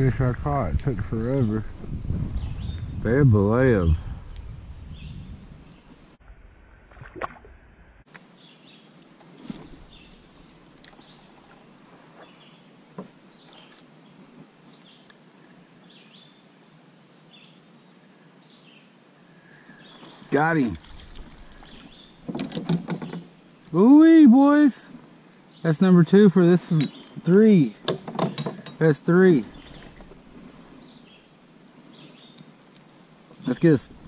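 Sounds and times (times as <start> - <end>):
birds chirping: 1.1 - 6.2, 8.3 - 16.5, 17.1 - 24.7, 25.4 - 34.0.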